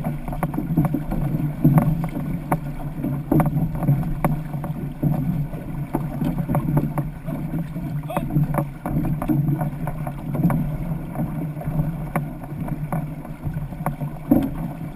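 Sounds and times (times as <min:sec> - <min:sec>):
paddle strokes splashing: 0:00.0 - 0:14.9
water and wind rushing: 0:00.0 - 0:14.9.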